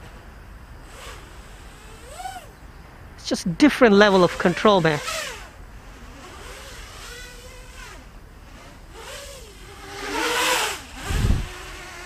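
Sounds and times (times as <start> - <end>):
quadcopter propellers buzzing: 0.8 - 2.6, 3.3 - 12.0.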